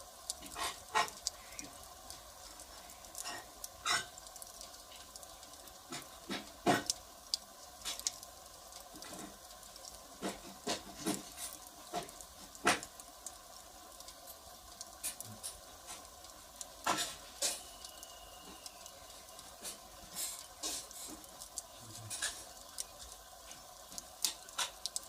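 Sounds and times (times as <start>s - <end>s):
low fire hiss: 0.0s - 25.0s
wood fire crackling and popping: 0.0s - 25.0s.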